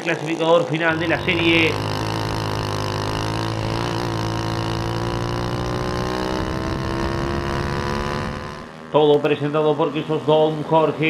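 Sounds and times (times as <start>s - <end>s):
kart engine accelerating: 0.0s - 11.0s.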